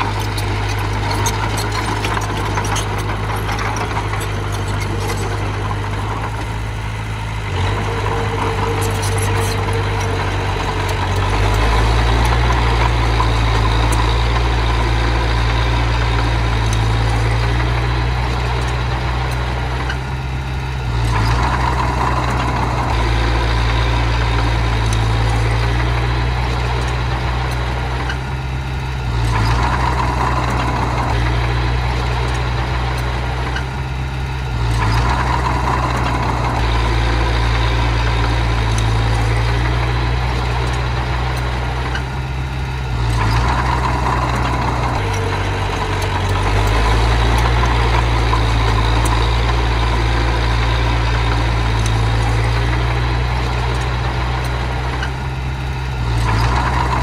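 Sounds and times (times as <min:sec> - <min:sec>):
diesel engine running: 0:00.0 - 0:57.0
engine whine: 0:00.0 - 0:57.0.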